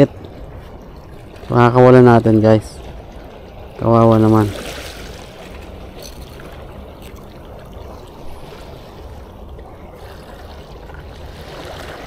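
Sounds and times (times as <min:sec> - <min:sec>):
sea water lapping at shore: 0:00.0 - 0:12.0.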